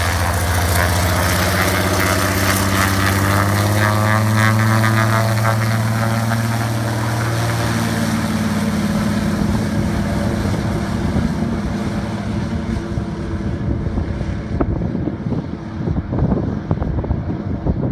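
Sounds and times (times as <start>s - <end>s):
floatplane engine and propeller drone: 0.0s - 17.9s
wind gusts on microphone: 0.0s - 17.9s.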